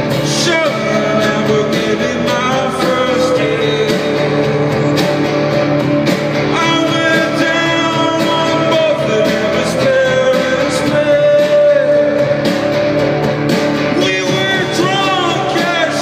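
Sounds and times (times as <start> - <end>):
man singing: 0.0 - 5.3, 6.4 - 12.7, 13.9 - 16.0.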